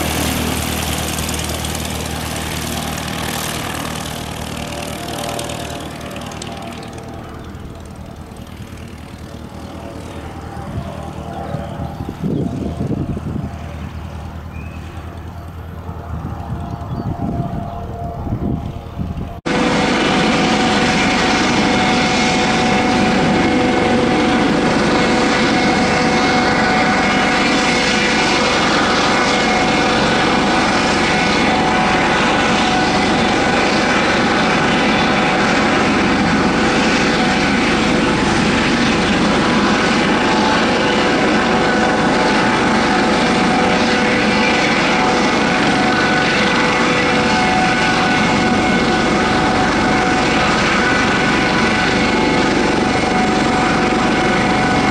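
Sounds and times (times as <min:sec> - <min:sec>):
propeller plane engine drone: 0:00.0 - 0:54.9
whining tones: 0:00.0 - 0:54.9.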